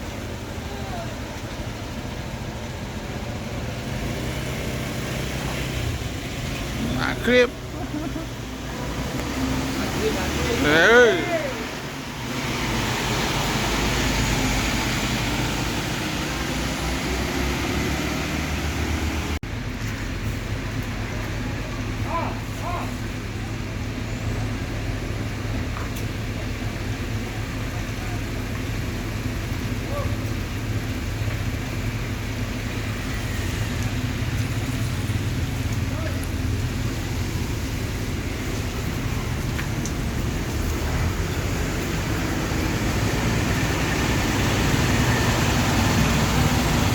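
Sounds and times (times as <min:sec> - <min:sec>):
bus engine rumble: 0:00.0 - 0:46.9
traffic noise: 0:00.0 - 0:46.9.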